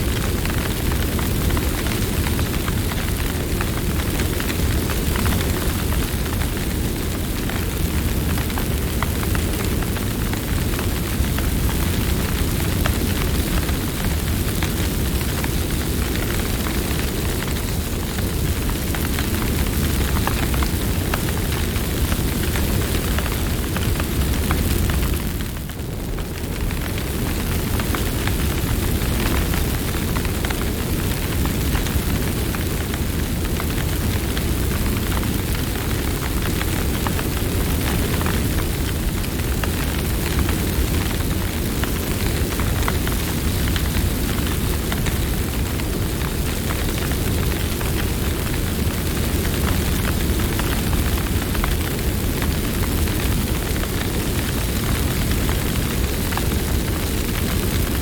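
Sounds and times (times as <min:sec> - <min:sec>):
burning wood crackling and popping: 0:00.0 - 0:58.0
campfire flames rushing: 0:00.0 - 0:58.0.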